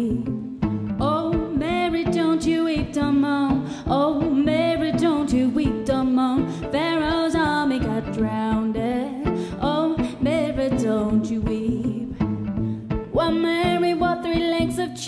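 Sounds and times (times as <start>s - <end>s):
woman singing: 0.0s - 12.2s, 13.1s - 15.0s
violin plucked pizzicato: 0.0s - 15.0s.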